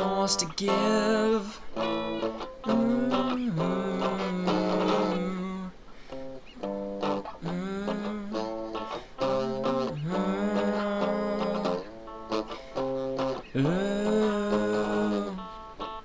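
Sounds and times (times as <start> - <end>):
guitar bending long notes: 0.0 - 16.0.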